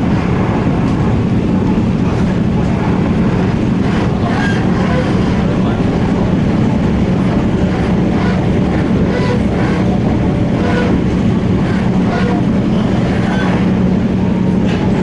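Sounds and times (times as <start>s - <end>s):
constant low hum: 0.0s - 15.0s
train wheels rumbling on rail: 0.0s - 15.0s.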